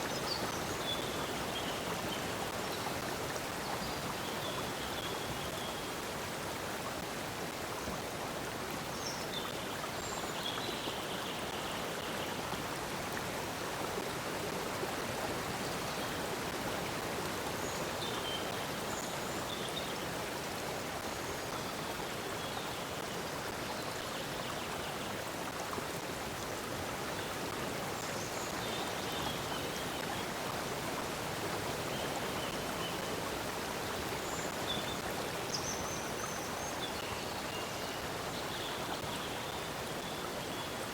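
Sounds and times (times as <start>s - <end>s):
stream of flowing water: 0.0s - 40.9s.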